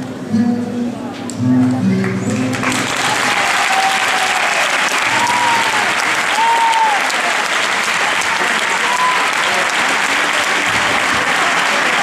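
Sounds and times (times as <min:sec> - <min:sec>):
crowd applauding: 0:02.0 - 0:12.0.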